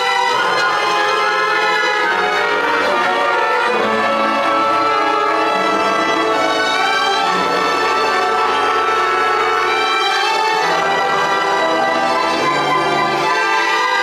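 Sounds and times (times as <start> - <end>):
concert band playing: 0.0 - 14.0.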